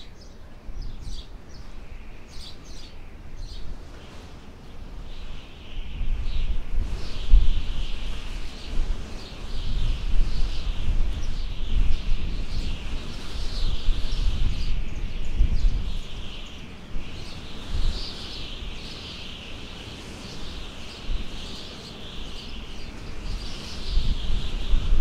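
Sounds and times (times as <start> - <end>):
many birds chirping: 0.0 - 25.0
wind buffeting microphone: 0.0 - 25.0.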